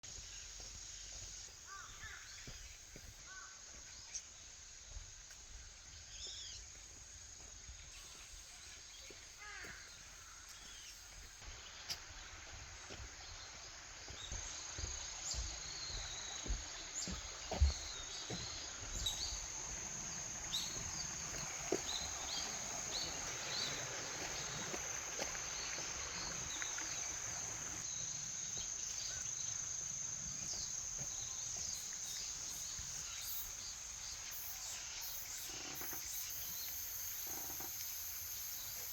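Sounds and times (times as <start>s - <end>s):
insects trilling: 0.1s - 38.9s.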